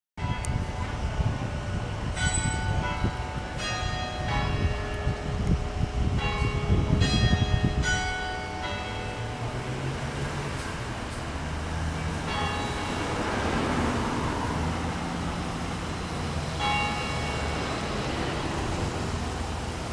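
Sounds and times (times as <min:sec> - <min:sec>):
church bells ringing: 0:00.2 - 0:19.9.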